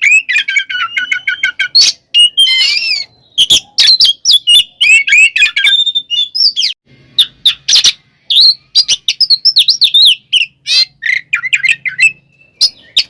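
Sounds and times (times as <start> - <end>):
bird singing: 0.0 - 13.0.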